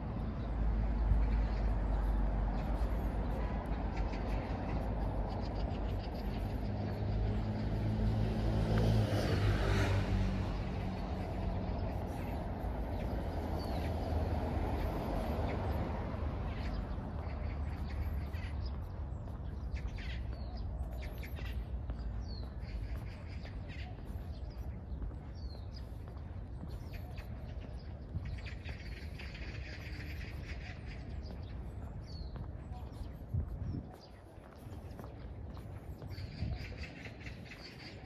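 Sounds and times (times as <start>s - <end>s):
vehicle passing: 0.0s - 33.5s
low traffic rumble: 0.0s - 38.0s
small birds chirping: 0.0s - 38.0s.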